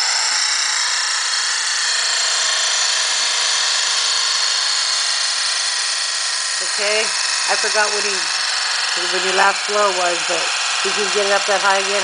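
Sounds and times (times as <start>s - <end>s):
spinning steel balls whirring: 0.0s - 12.0s.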